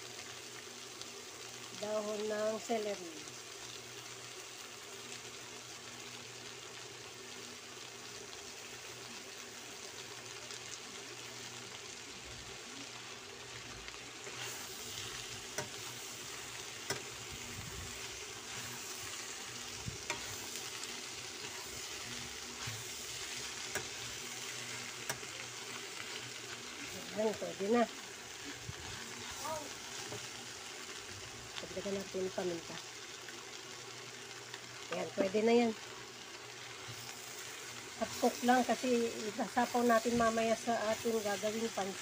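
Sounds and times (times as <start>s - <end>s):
food sizzling in a frying pan: 0.0s - 42.0s.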